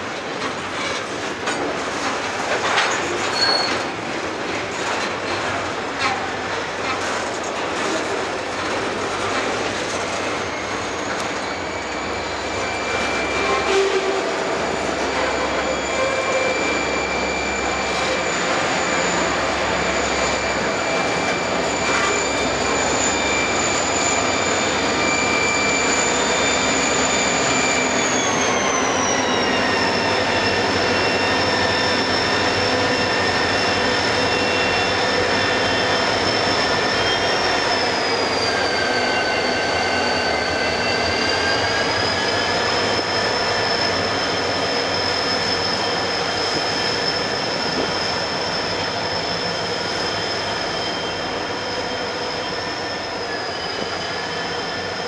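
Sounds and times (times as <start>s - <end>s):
train wheels squealing: 0.0s - 55.0s.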